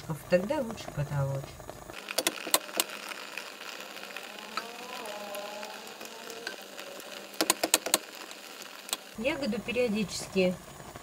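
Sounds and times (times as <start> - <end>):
jam simmering with sizzling hiss: 0.0 - 11.0.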